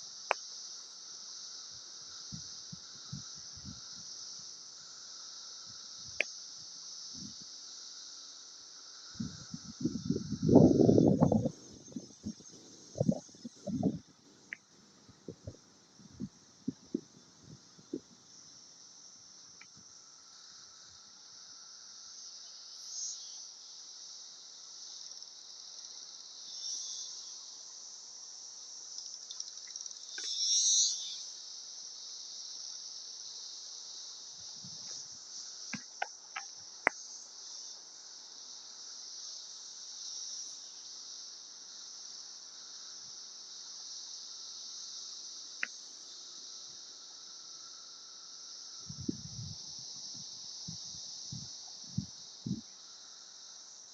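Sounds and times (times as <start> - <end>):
cicadas buzzing: 0.0 - 53.9.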